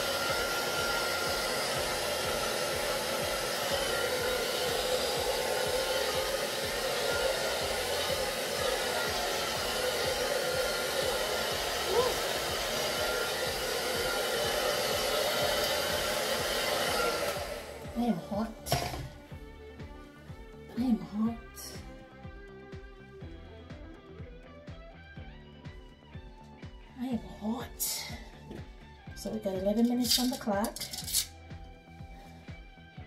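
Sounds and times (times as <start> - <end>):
hair dryer running: 0.0 - 22.8, 27.2 - 32.6.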